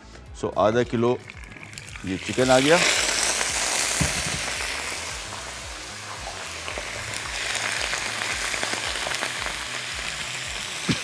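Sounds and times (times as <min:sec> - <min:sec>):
chicken sizzling in hot oil: 0:01.3 - 0:11.0.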